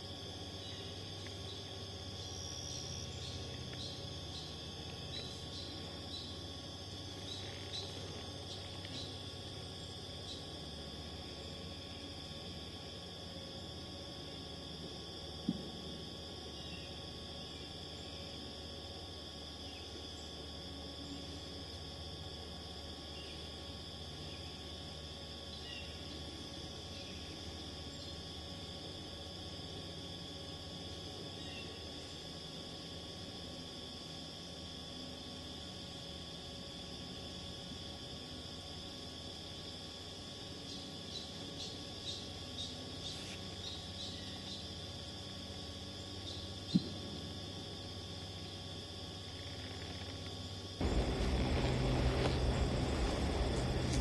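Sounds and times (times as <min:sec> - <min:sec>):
faint low hum: 0:00.0 - 0:54.0
insects trilling: 0:00.0 - 0:54.0
short insect chirps: 0:00.0 - 0:54.0.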